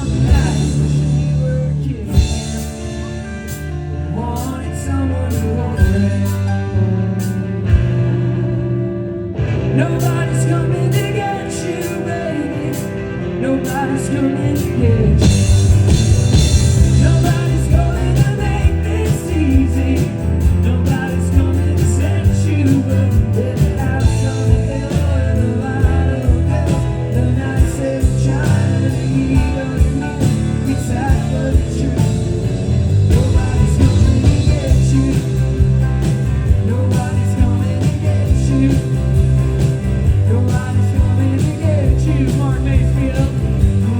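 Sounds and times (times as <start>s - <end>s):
person singing: 0.0s - 6.8s, 9.7s - 43.9s
live rock band playing: 0.0s - 43.9s.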